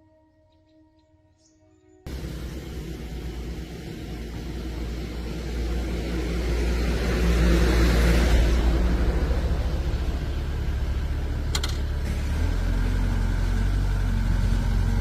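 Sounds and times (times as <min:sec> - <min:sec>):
diesel engine rumbling: 0:02.1 - 0:15.0.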